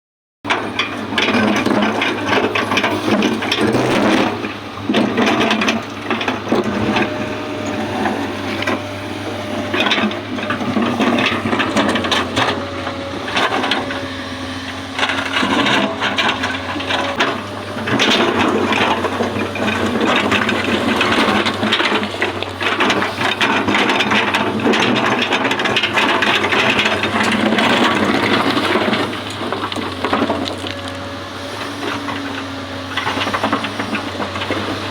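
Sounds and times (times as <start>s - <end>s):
excavator engine drone: 0.5s - 34.9s
bucket scraping and crunching: 1.3s - 34.9s.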